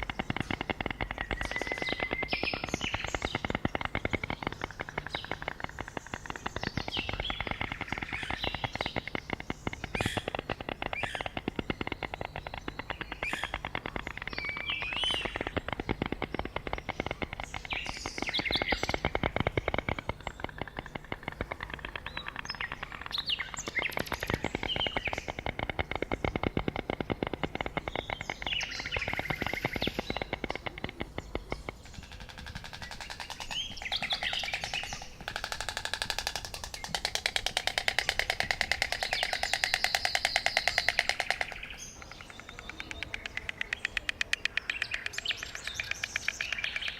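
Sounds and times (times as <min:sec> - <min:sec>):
small birds chirping: 0:00.0 - 0:46.9
stork bill clattering: 0:00.0 - 0:46.9.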